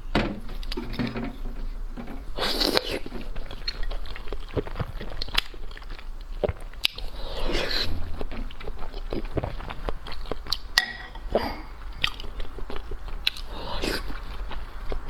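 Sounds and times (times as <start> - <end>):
person chewing food: 2.2 - 15.0.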